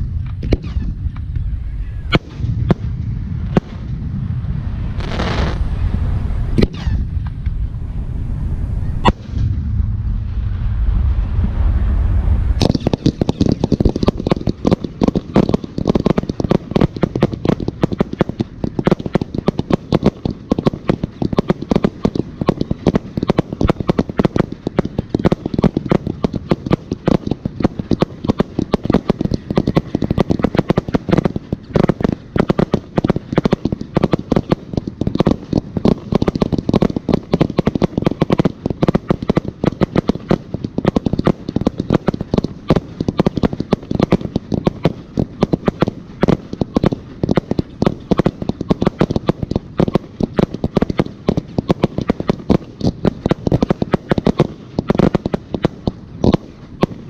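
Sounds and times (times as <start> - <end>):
low rumble: 0.0 - 53.0
fireworks bangs and crackles: 2.1 - 7.4, 9.0 - 57.0.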